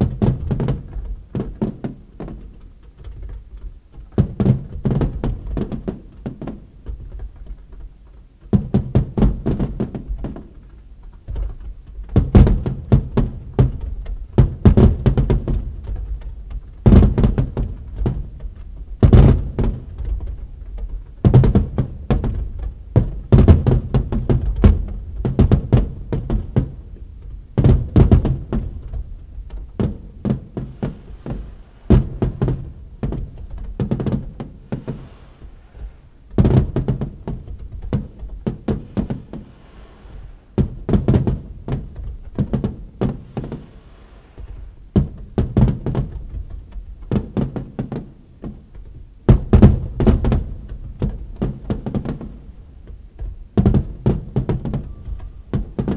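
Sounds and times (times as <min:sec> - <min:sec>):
fireworks booming: 0:00.0 - 0:55.9.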